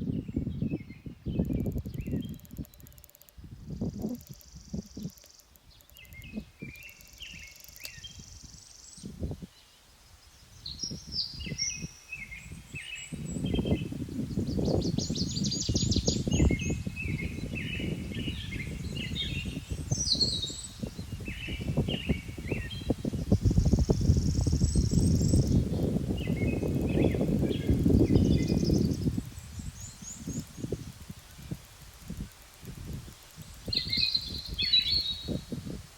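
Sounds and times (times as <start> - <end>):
songbirds chirping and trilling: 0.0 - 35.7.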